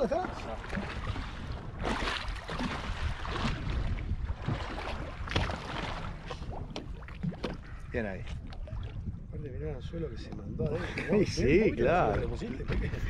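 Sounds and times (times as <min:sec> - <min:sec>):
water lapping against boat: 0:00.0 - 0:13.0
wind rumbling on microphone: 0:00.0 - 0:13.0.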